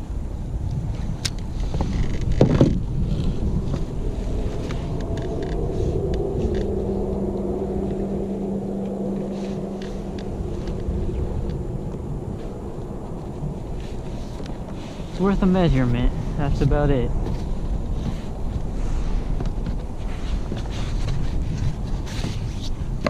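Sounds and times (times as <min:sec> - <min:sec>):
steady engine drone: 0:00.0 - 0:23.0
wind rumble on microphone: 0:00.0 - 0:23.0.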